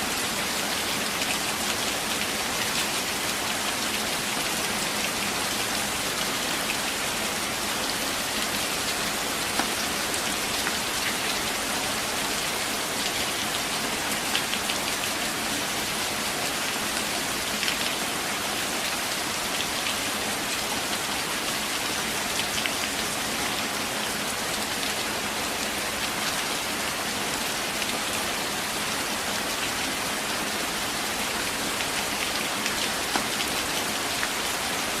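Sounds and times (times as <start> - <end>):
rain falling through trees: 0.0 - 35.0.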